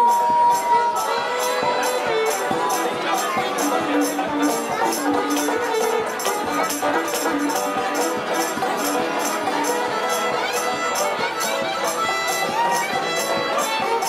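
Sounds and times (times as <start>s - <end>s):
banjo strumming: 0.0s - 14.0s
fiddle bowed: 0.0s - 14.0s
rattling percussion beat: 0.0s - 14.0s.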